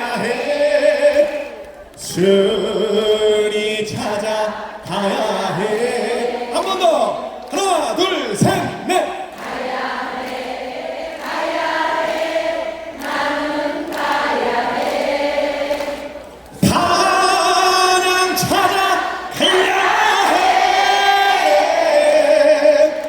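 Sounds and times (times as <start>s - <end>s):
audience singing in unison: 0.0s - 7.3s, 8.6s - 23.0s.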